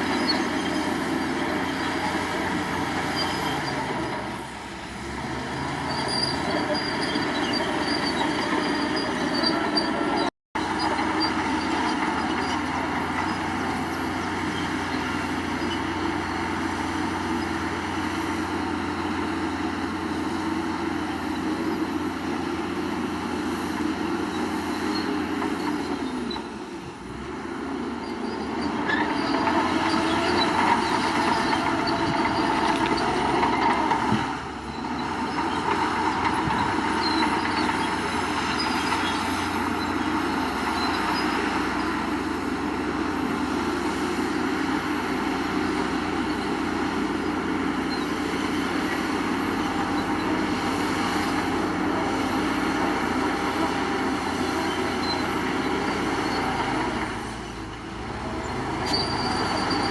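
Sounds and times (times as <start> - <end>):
heavy diesel machinery engine: 0.0 - 59.9.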